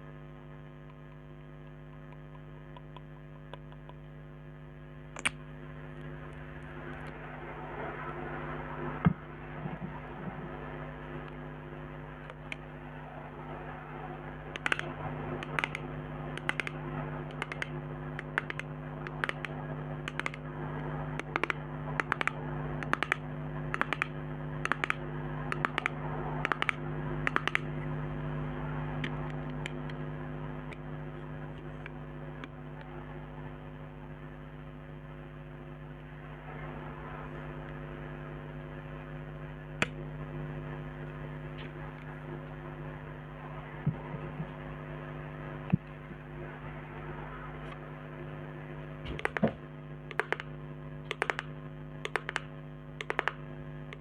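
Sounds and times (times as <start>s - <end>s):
electrical hum and hiss: 0.0s - 54.0s.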